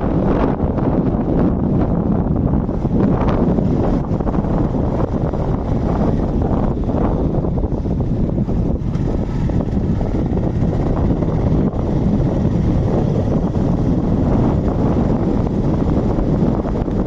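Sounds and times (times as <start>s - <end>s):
road and vehicle noise: 0.0s - 17.0s
wind buffeting microphone: 0.0s - 17.0s.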